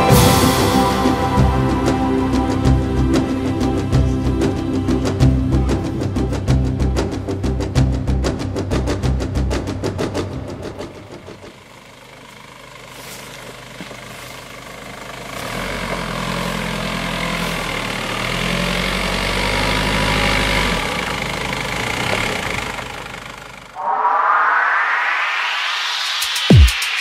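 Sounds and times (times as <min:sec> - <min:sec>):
vehicle engine running: 0:00.0 - 0:23.8.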